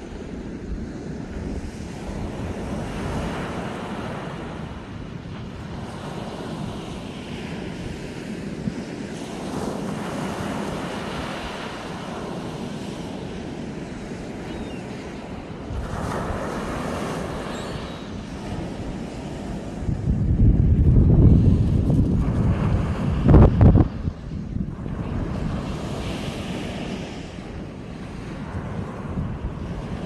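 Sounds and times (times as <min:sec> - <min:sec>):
small waves breaking on beach: 0:00.0 - 0:20.4, 0:21.0 - 0:30.0
wind rumbling on microphone: 0:00.0 - 0:30.0.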